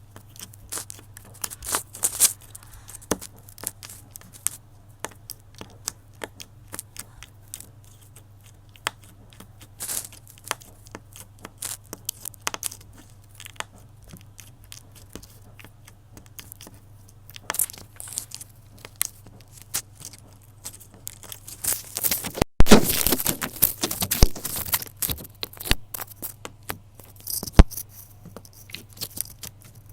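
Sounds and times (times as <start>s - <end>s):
clicks and crackles of handled material: 0.0s - 29.9s.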